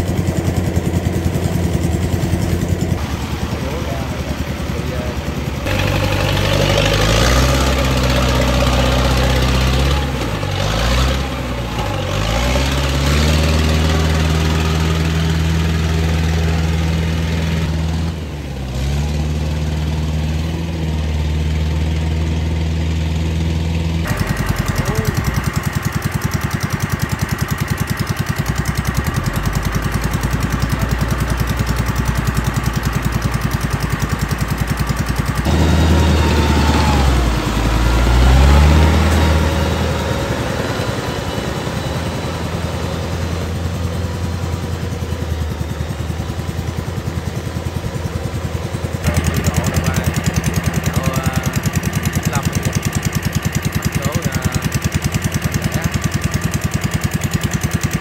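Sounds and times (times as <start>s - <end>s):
engine running under load: 0.0s - 58.0s
rough pulsing engine: 0.0s - 58.0s.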